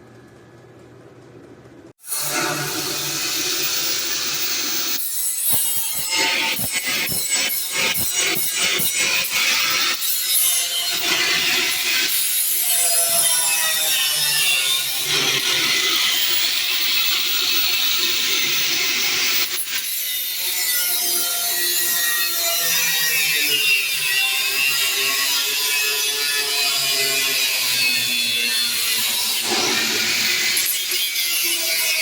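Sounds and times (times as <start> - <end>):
power tool cutting sheet steel: 2.0 - 32.0.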